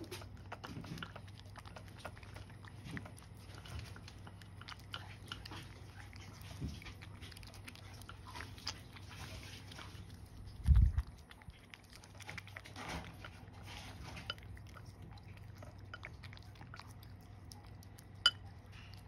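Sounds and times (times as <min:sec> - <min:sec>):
cat licking and chewing food: 0:00.0 - 0:19.0
faint low hum: 0:00.0 - 0:19.0.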